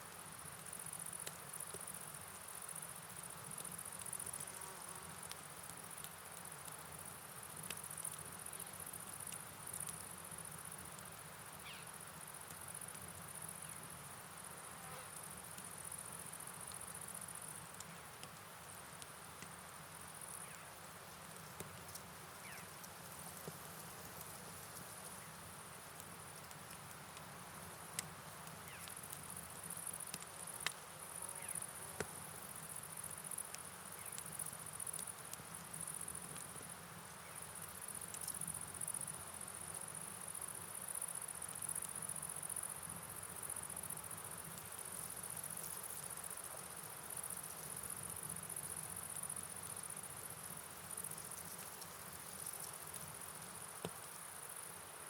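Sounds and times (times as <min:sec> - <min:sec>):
rain hiss: 0:00.0 - 0:55.0
crickets chirring: 0:00.4 - 0:55.0.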